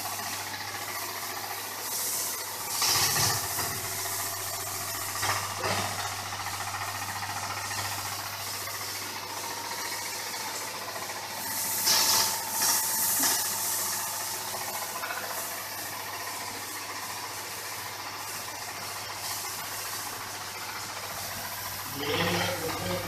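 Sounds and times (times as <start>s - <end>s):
pump motor humming: 0.0s - 23.0s
water jet spraying hiss: 0.2s - 23.0s.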